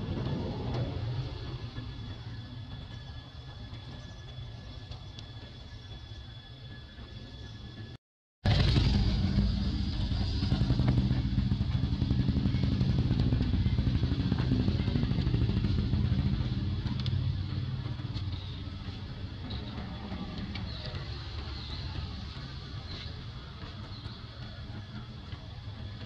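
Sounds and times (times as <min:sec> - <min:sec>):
engine running low drone: 0:00.0 - 0:26.0.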